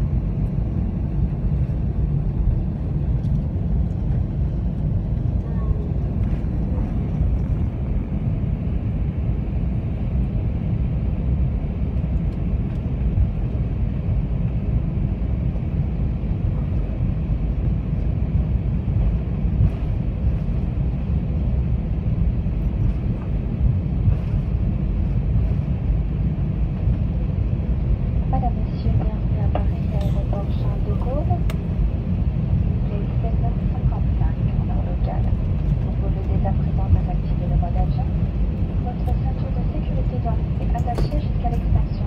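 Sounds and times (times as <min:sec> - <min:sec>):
aircraft cabin low rumble: 0:00.0 - 0:42.0.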